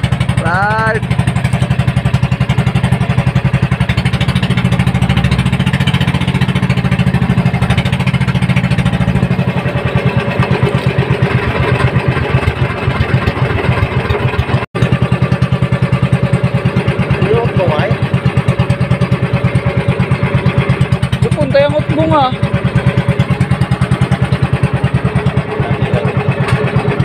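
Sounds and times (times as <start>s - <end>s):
boat engine puttering: 0.0s - 27.0s.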